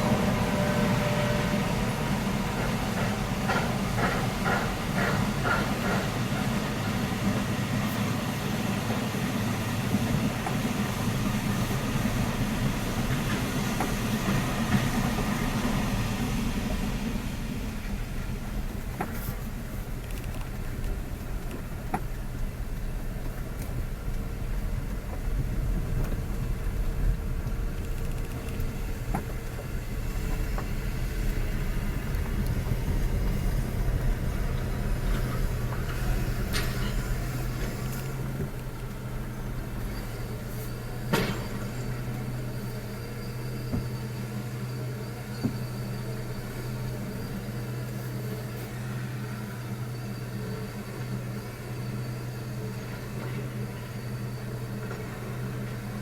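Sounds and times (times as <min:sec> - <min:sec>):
engine running with low rumble: 0:00.0 - 0:56.0.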